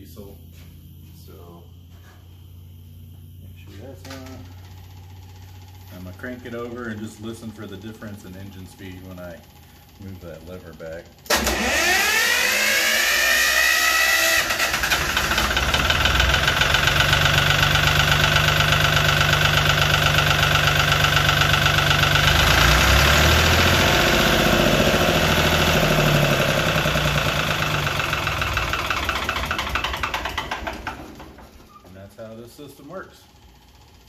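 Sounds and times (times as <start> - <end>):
diesel engine cranking and running: 3.9 - 34.0.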